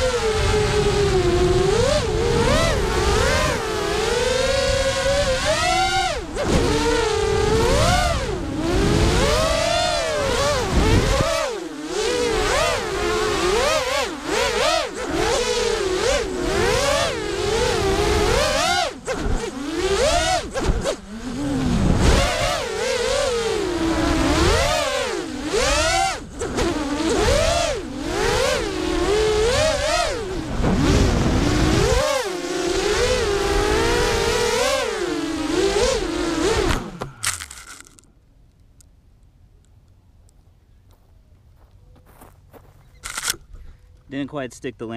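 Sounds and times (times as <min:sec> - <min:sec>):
quadcopter motors whining: 0:00.0 - 0:38.1.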